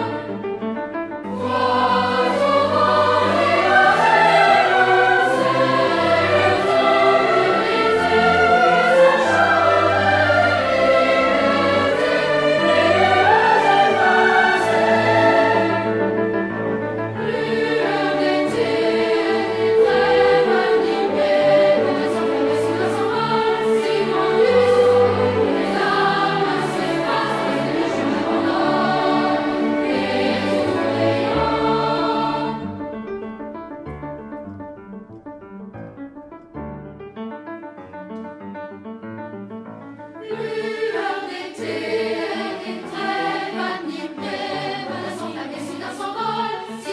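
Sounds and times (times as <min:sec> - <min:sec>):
choir singing: 0:00.0 - 0:00.6, 0:01.2 - 0:33.0, 0:40.2 - 0:46.9.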